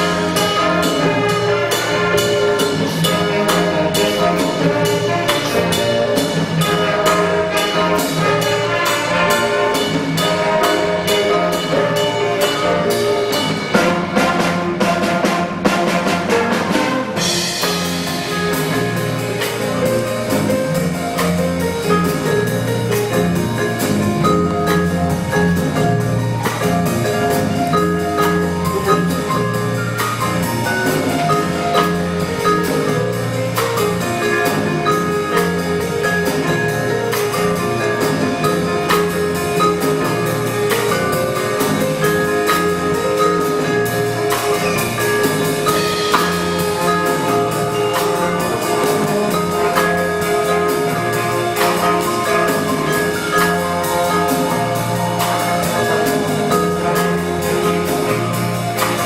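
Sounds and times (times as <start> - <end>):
drum kit beat: 0.0 - 59.0
jazz band playing: 0.0 - 59.0.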